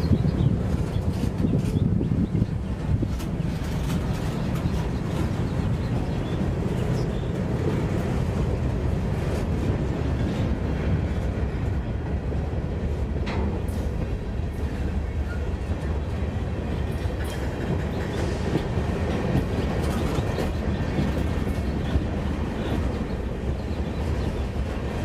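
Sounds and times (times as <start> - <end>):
railcar rumbling on track: 0.0 - 25.0.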